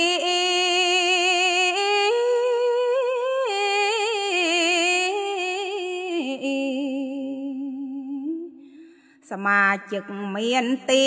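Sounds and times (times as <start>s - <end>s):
woman chanting: 0.0s - 8.6s, 9.2s - 11.0s.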